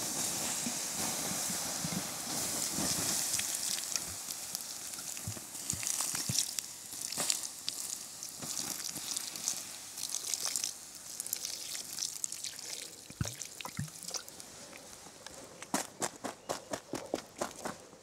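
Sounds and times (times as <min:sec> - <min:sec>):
water hissing on hot embers: 0:00.0 - 0:15.6
embers crackling and popping: 0:00.0 - 0:16.2.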